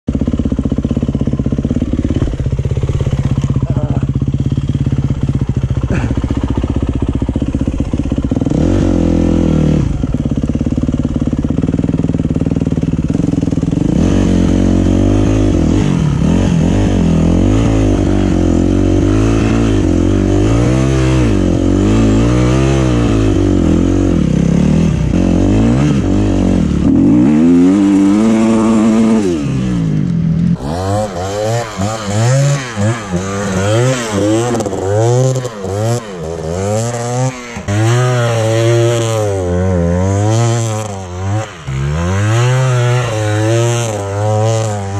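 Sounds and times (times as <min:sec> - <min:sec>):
dirt bike engine revving: 0:00.1 - 0:44.9.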